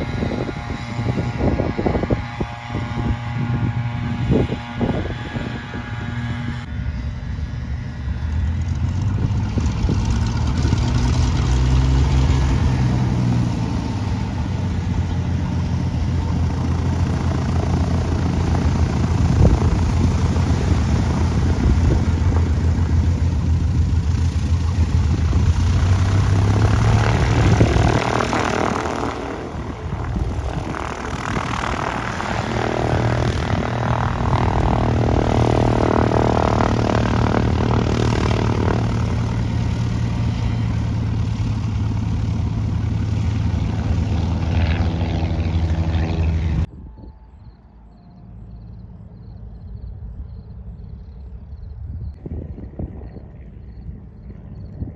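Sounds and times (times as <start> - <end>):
propeller airplane engine running: 0.0 - 54.9.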